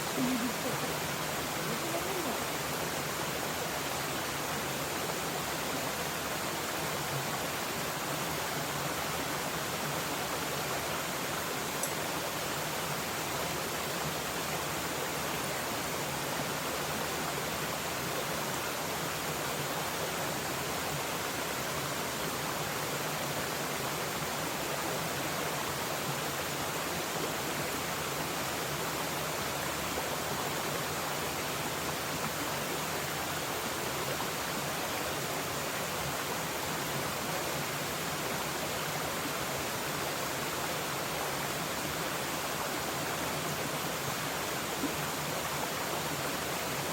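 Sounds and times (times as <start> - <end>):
mountain stream rushing: 0.0 - 46.9.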